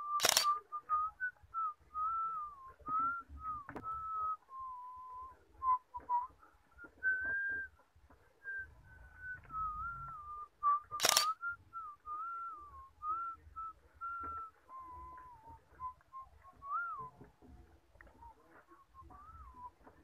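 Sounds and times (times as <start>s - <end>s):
person whistling a slow tune: 0.0s - 7.8s, 8.4s - 17.2s, 18.7s - 20.0s.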